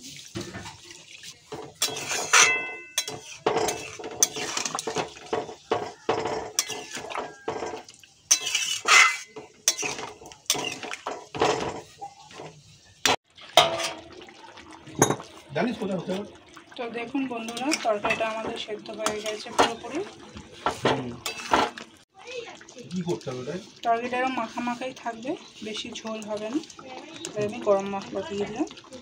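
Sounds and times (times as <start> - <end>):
metal spatula scraping a pan: 0.0 - 14.2, 17.1 - 22.0, 23.6 - 28.6.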